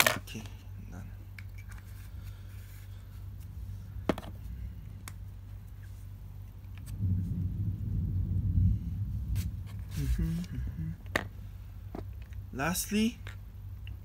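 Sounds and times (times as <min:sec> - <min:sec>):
steady low hum: 0:00.0 - 0:14.0
low rubbing rumble: 0:02.0 - 0:13.8.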